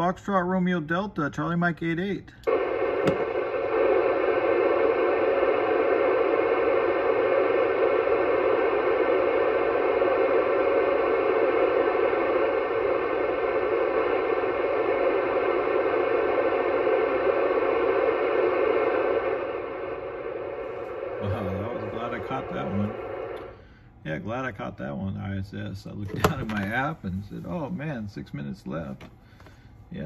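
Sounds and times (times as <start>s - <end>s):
radio static hiss: 2.5s - 29.0s.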